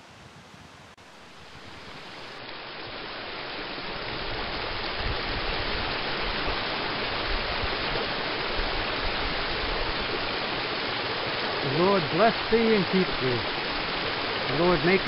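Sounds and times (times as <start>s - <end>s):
stream rushing over rocks: 1.0s - 15.0s.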